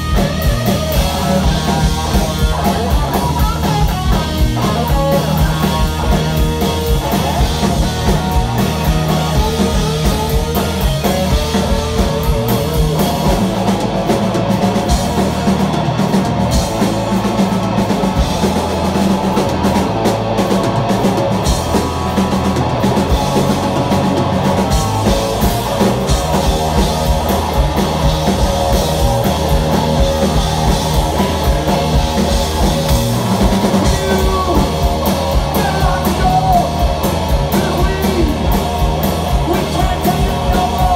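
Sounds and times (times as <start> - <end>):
drum kit beat: 0.0 - 40.9
electric bass: 0.0 - 40.9
electric guitar: 0.0 - 40.9.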